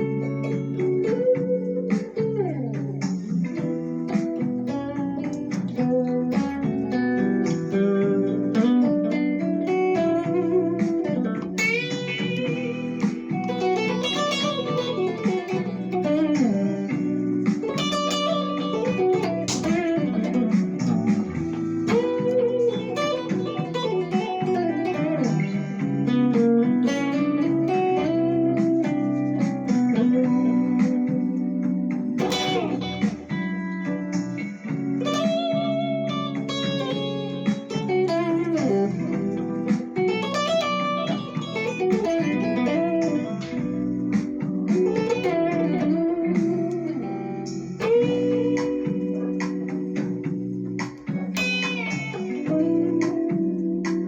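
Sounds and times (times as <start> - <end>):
guitar plucked notes and chords: 0.0 - 54.0.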